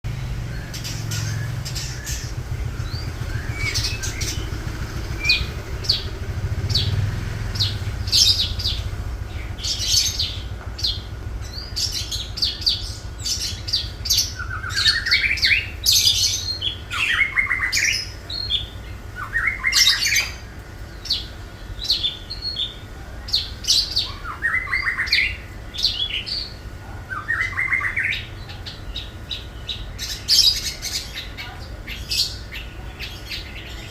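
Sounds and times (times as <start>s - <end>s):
bird singing chirps and trills: 0.1s - 33.9s.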